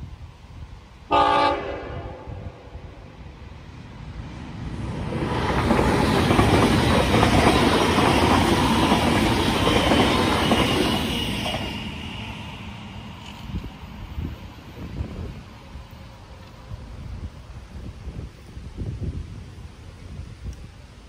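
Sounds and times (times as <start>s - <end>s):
train passing with rumbling wheels: 0.0s - 21.0s.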